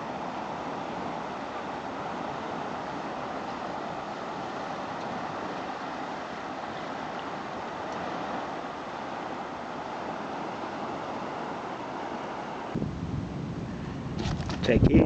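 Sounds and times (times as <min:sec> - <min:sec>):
river rapids rushing: 0:00.0 - 0:12.8.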